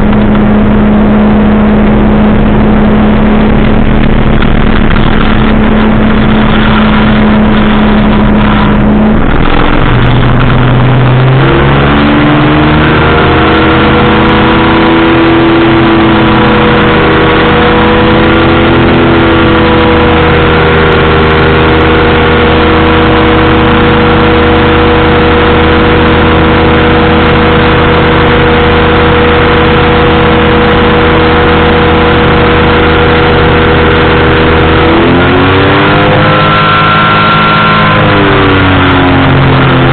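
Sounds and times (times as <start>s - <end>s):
engine and propeller running loud: 0.0s - 39.9s.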